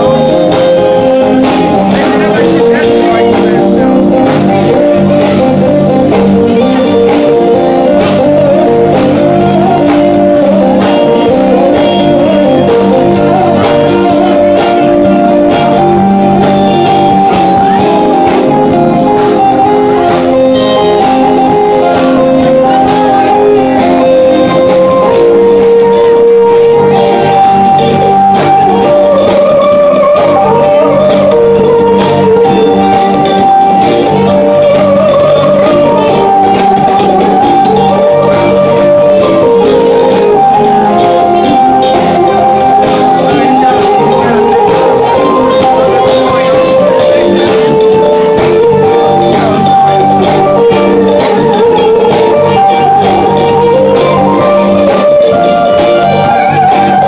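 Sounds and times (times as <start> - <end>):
bass: 0.0 - 57.0
drums: 0.0 - 57.0
electric guitar lines: 0.0 - 57.0
keyboards: 0.0 - 57.0.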